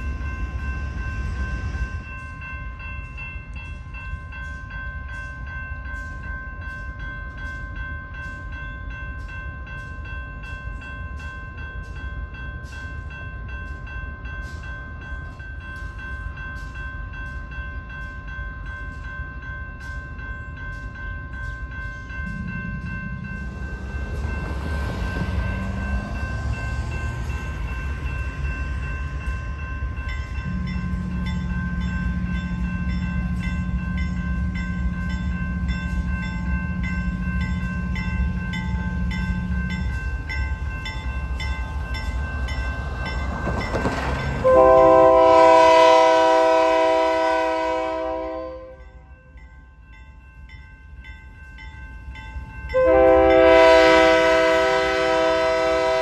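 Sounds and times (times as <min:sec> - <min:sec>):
warning bell ringing: 0:00.0 - 0:54.3
diesel locomotives rumbling: 0:00.0 - 0:56.0.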